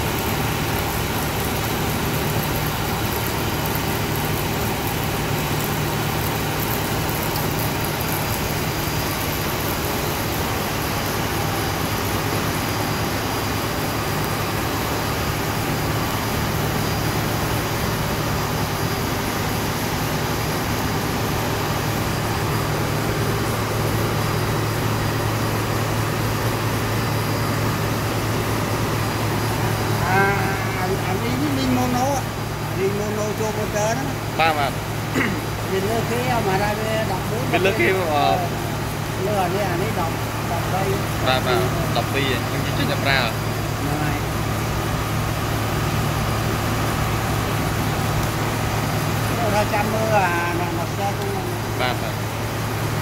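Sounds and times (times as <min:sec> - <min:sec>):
electric motors humming and whirring: 0:00.0 - 0:53.0.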